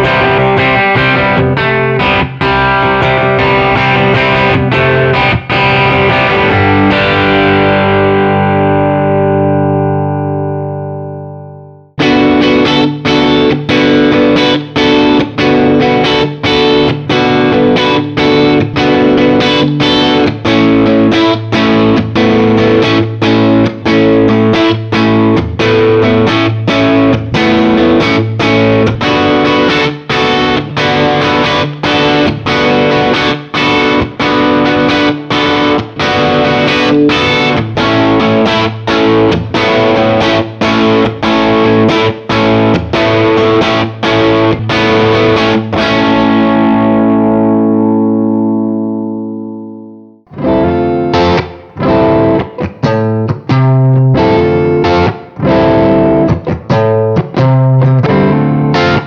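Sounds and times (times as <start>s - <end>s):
distorted electric guitar riff: 0.0s - 59.0s.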